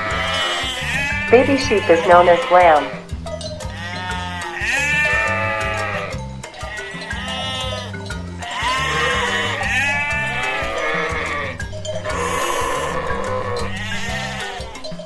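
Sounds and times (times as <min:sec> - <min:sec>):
background music with steady beat: 0:00.0 - 0:15.0
lamb bleating: 0:00.0 - 0:15.0.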